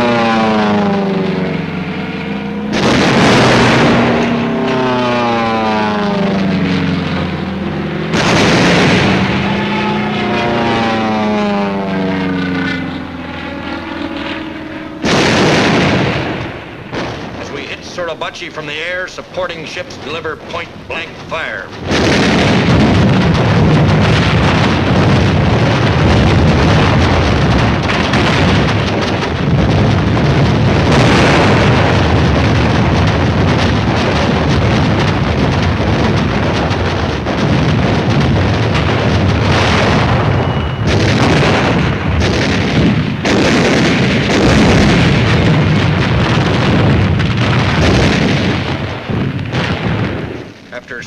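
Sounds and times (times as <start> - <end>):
rumble of gunfire and explosions: 0.0 - 51.0.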